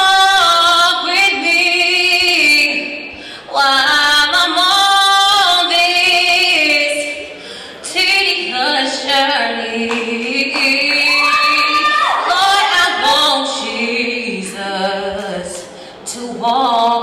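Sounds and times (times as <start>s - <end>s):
woman singing unaccompanied: 0.0s - 7.2s, 7.8s - 17.0s.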